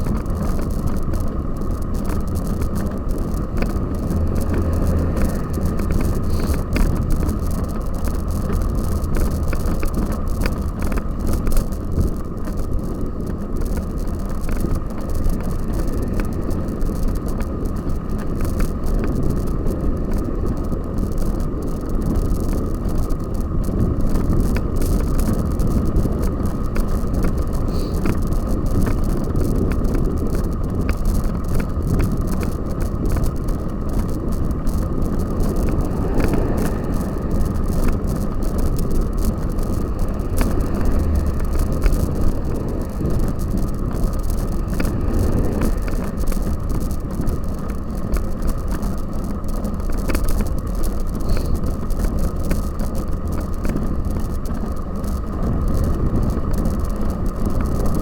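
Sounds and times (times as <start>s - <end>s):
bicycle rattling and clicking: 0.0s - 58.0s
wind rush on microphone: 0.0s - 58.0s.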